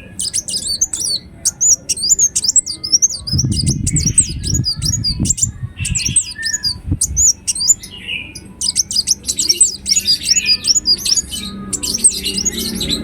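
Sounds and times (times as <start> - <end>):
sunbird chirping: 0.0 - 13.0.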